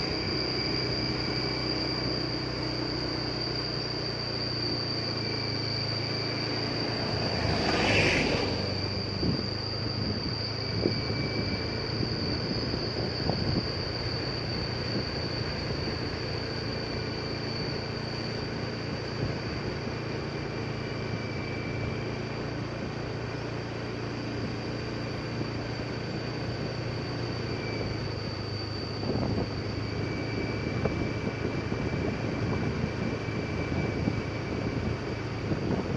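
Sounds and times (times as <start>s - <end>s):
steady high-pitched tone: 0.0s - 35.9s
vehicle engine and tyre noise: 0.0s - 35.9s.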